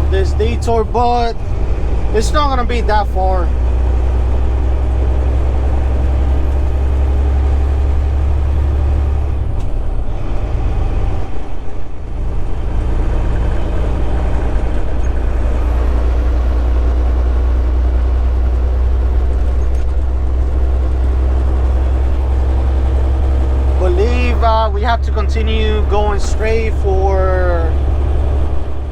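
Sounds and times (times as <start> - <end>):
truck engine droning: 0.0 - 28.9.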